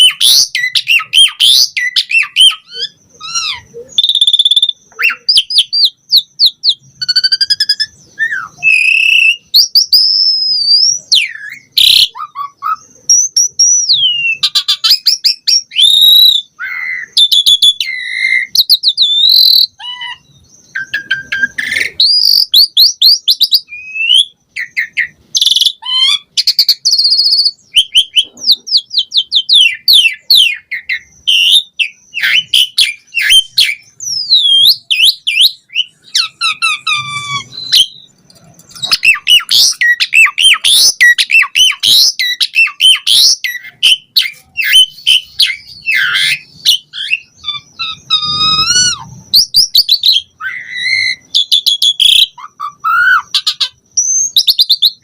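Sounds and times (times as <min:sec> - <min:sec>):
starling singing whistled trills: 0:00.0 - 0:55.0.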